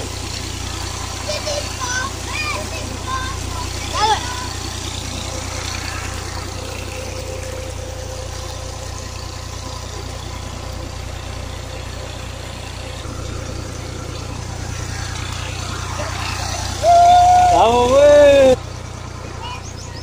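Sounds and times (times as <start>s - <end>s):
water gushing along channel: 0.0s - 19.7s
water pump running: 0.0s - 20.0s.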